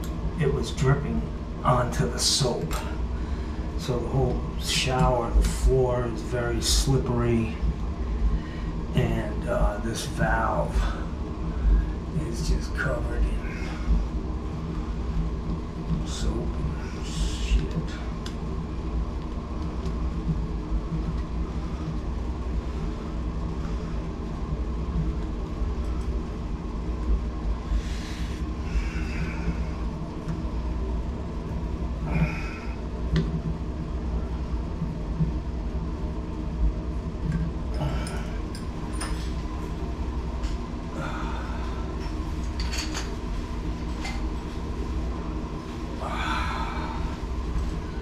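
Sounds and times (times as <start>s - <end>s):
low droning hum: 0.0s - 48.0s.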